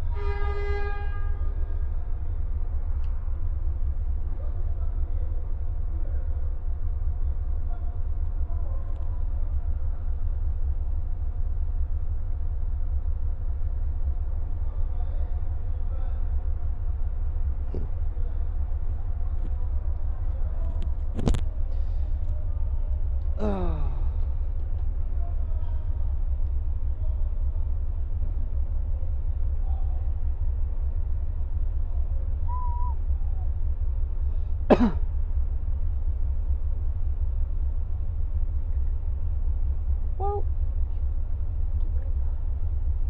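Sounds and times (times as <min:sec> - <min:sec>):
bus diesel engine idling: 0:00.0 - 0:43.0.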